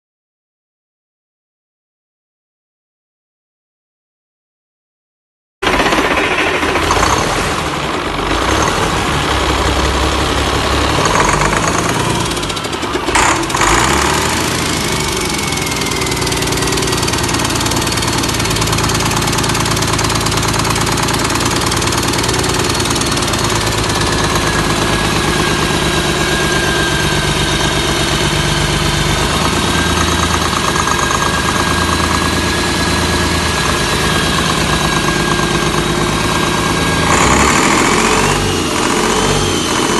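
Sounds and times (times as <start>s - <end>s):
diesel engine idling: 5.6s - 39.9s.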